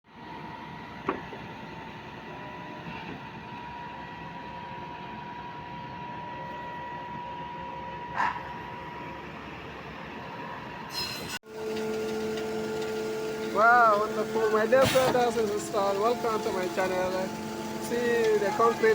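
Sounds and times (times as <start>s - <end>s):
construction machinery droning: 0.1s - 18.9s.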